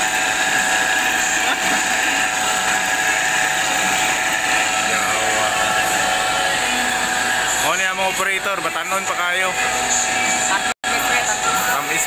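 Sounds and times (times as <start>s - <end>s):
disc cutting machine humming: 0.0s - 12.0s.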